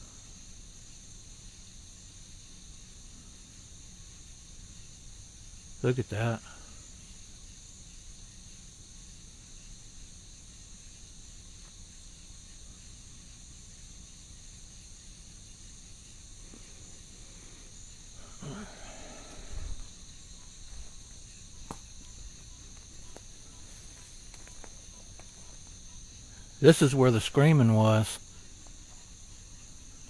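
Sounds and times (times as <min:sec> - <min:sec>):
night insects chorus: 0:00.0 - 0:30.0.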